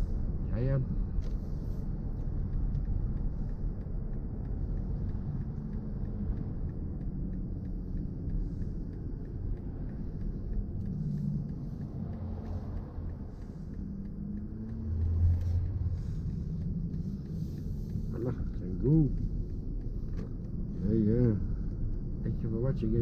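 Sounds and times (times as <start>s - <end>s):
road and tyre rumble in car: 0.0s - 23.0s.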